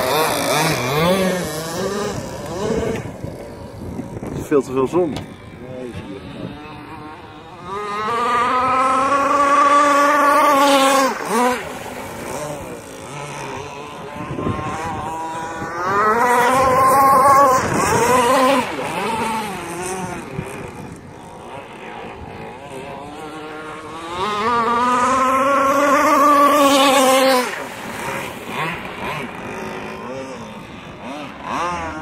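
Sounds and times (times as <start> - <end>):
model boat engine at high revs: 0.0 - 32.0.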